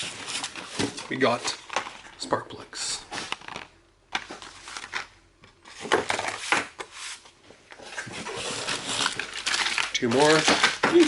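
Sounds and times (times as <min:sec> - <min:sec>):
packaging rustling: 0:00.0 - 0:02.4, 0:03.0 - 0:06.6, 0:07.7 - 0:11.0.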